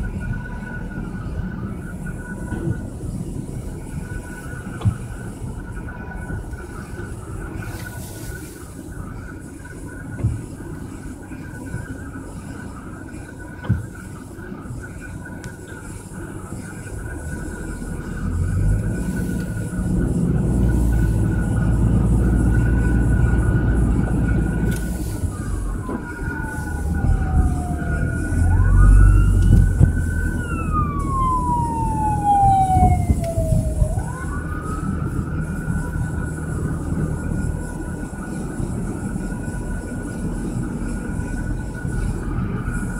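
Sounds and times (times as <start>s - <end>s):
car road and engine noise: 0.0s - 42.9s
emergency siren wailing: 0.0s - 42.9s.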